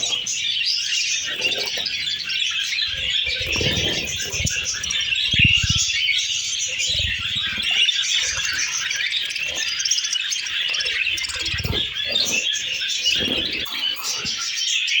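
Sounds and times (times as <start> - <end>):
lovebirds chattering: 0.0 - 15.0.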